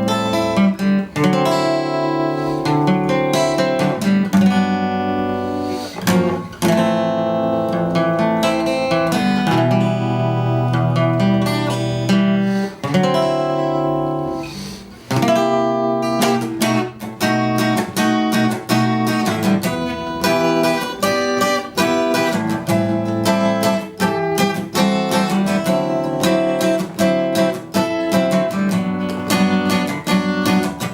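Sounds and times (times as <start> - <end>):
acoustic guitar music: 0.0 - 30.9.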